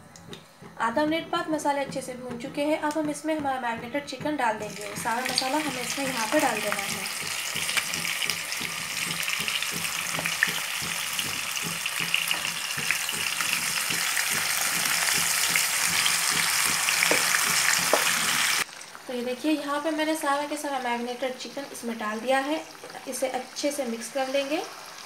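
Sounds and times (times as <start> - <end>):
chicken sizzling in hot oil: 4.6 - 25.0.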